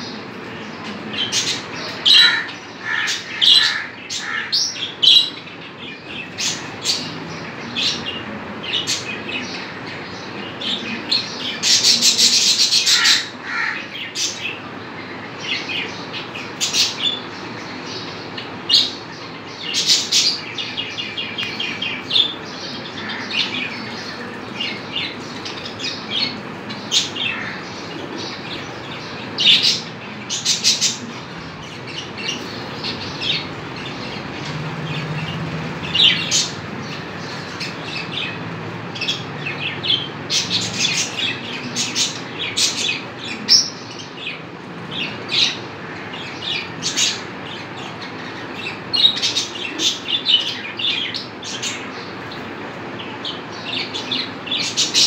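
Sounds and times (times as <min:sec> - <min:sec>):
parrots chirping: 0:00.0 - 0:14.6, 0:15.2 - 0:55.0.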